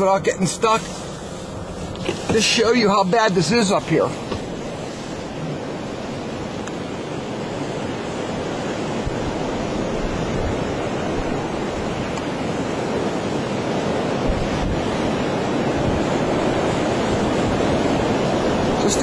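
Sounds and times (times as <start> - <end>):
wind buffeting on microphone: 0.0 - 19.0
wind howling: 0.0 - 19.0.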